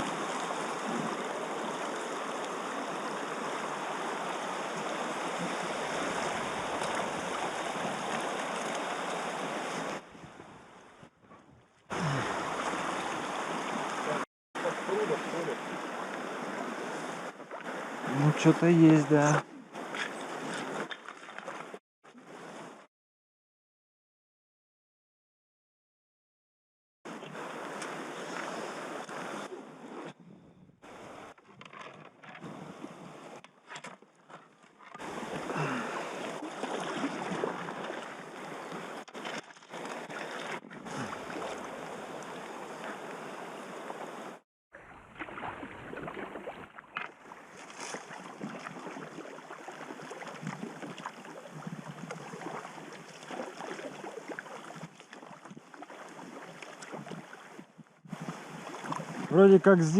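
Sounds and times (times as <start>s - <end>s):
river water rushing and splashing: 0.0s - 10.2s, 11.9s - 22.8s, 27.1s - 30.0s, 35.0s - 57.6s, 58.2s - 59.9s.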